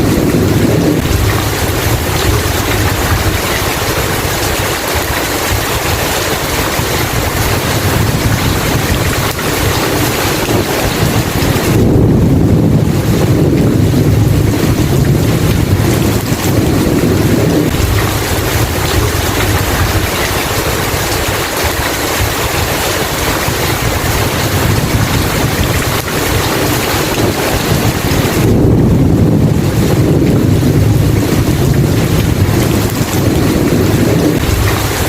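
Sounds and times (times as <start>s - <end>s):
heavy rain pouring: 0.0s - 35.0s
low thunder rumble: 0.0s - 35.0s.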